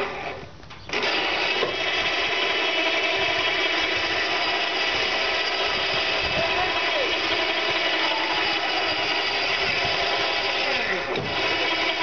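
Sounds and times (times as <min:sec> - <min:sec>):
power winch motor running: 0:00.0 - 0:12.0.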